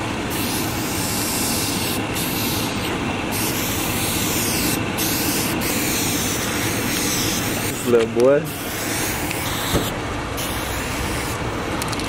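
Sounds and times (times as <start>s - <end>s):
spray paint can hissing: 0.3s - 11.4s.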